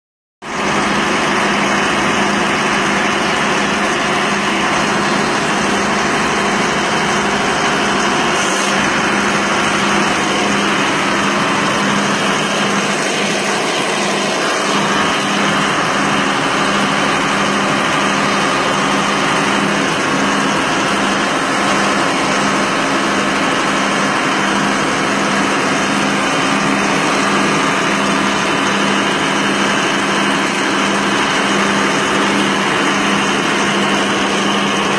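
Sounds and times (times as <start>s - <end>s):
machine humming: 0.5s - 34.9s.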